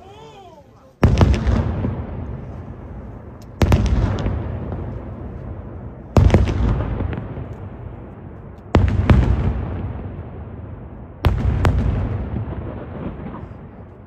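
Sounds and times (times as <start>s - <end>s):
firework shells booming: 1.0s - 14.0s
rumbling echo: 1.0s - 14.0s.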